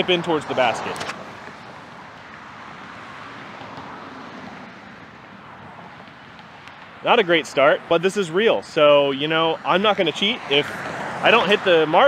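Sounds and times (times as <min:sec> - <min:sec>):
road traffic hiss: 0:00.0 - 0:12.0.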